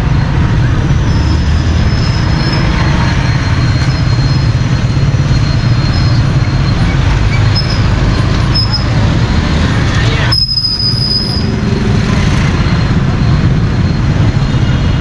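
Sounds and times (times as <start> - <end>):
vehicle rumble with road noise: 0.0 - 15.0.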